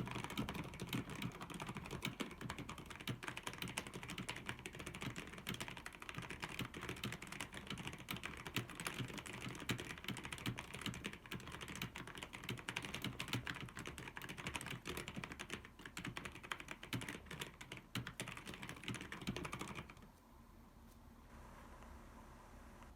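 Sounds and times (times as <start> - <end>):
fast typing on mechanical keyboard: 0.0 - 20.1.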